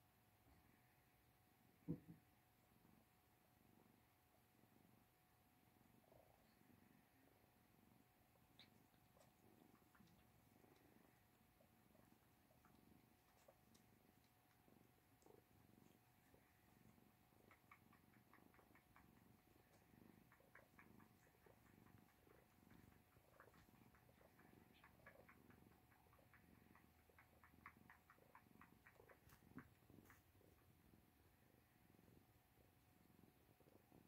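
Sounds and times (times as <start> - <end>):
cats purring: 0.0 - 34.0.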